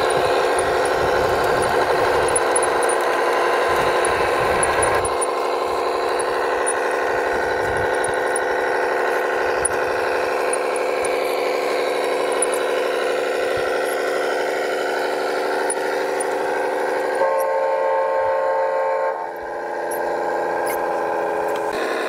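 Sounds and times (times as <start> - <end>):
small electric motor whining: 0.0 - 18.4, 19.1 - 22.0.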